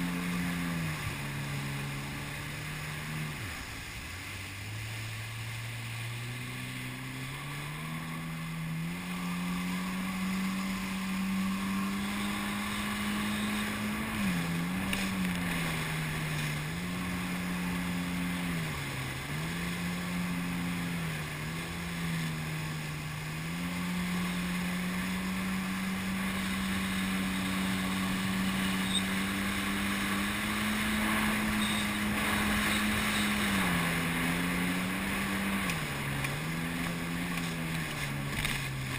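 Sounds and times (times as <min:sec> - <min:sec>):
hiss of water and wind: 0:00.0 - 0:38.9
jet ski engine: 0:00.0 - 0:38.9.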